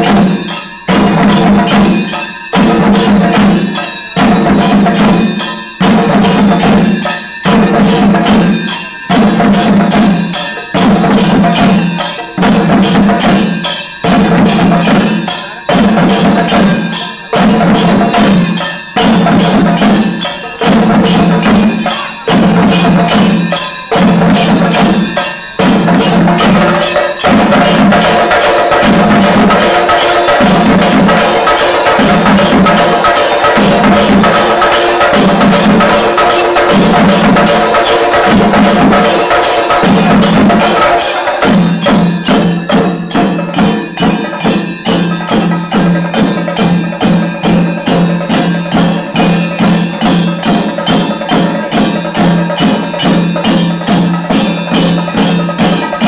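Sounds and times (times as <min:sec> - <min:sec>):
drums beaten with sticks: 0:00.0 - 0:56.0
ringing hand cymbals: 0:00.0 - 0:56.0.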